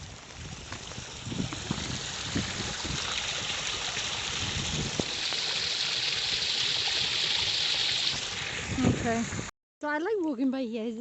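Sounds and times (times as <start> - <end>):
running water hissing: 0.0 - 9.5.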